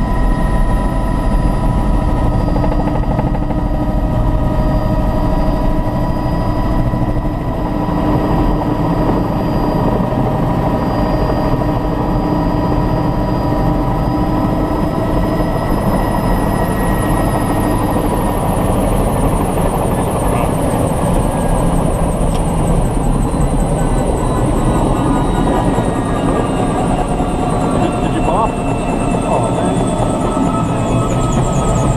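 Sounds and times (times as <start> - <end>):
helicopter engine and rotor: 0.0 - 31.9.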